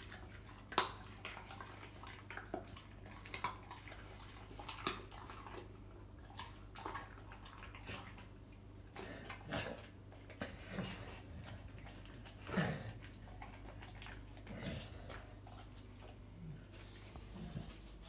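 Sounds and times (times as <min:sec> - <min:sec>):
dog licking and smacking: 0:00.0 - 0:09.4, 0:11.1 - 0:16.8.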